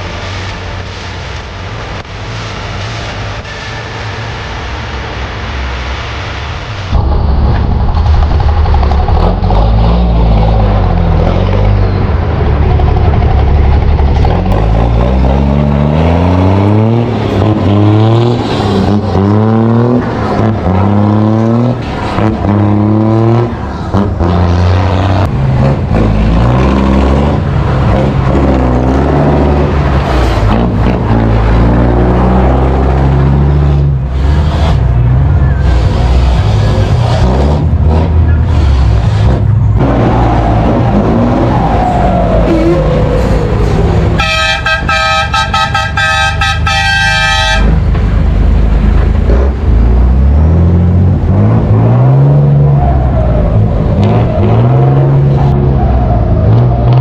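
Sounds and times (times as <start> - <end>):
truck diesel engine revving: 7.0 - 57.0.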